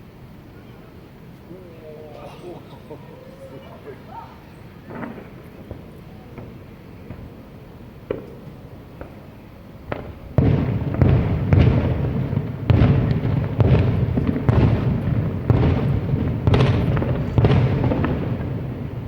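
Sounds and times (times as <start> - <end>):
fireworks shells booming: 2.2 - 19.0.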